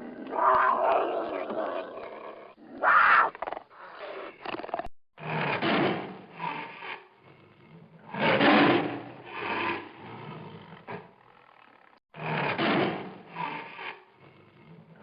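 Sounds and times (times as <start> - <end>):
animal growling: 0.0 - 15.0.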